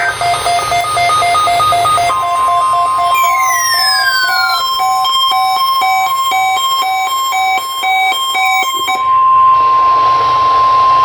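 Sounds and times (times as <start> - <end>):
rapid alternating beeps: 0.0 - 9.1
steady alarm tone: 0.0 - 11.0.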